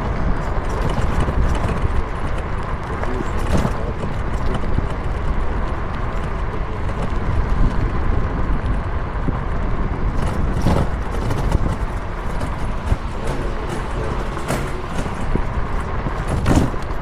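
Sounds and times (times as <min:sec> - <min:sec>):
tyre rumble on path: 0:00.0 - 0:17.0
wind buffeting microphone: 0:00.0 - 0:17.0.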